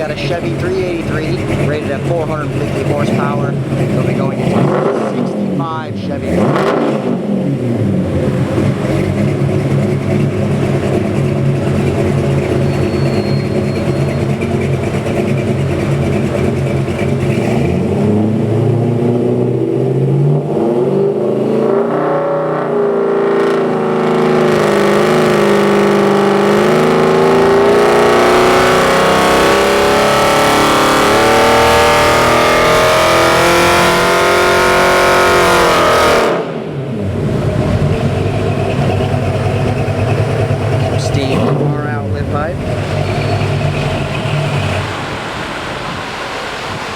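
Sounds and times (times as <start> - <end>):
vee eight engine revving on dyno: 0.0 - 46.9.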